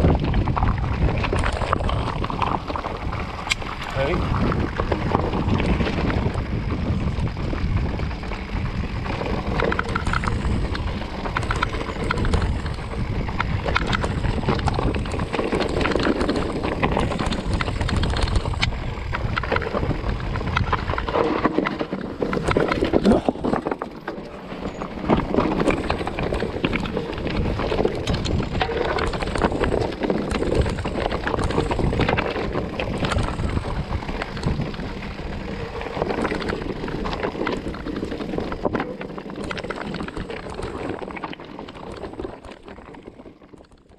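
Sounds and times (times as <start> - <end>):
wind buffeting microphone: 0.0 - 23.9, 24.5 - 43.3
bike frame and chain rattling: 0.0 - 43.9
tyres crunching over stones: 0.0 - 43.9.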